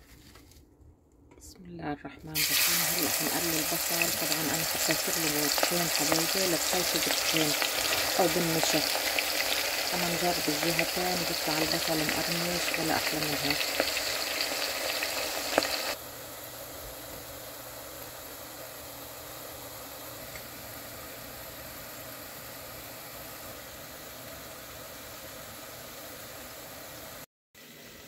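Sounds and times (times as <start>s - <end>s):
onions sizzling in hot oil: 2.4s - 28.0s.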